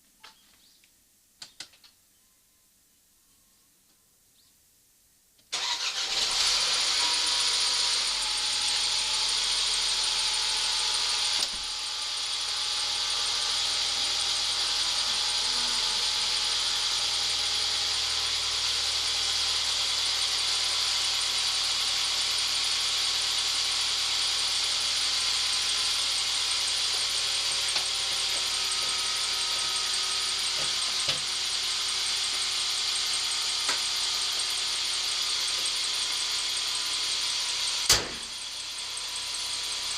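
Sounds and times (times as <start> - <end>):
car engine idling: 5.6 - 39.9
rapid high-pitched engine ticking: 6.4 - 39.9.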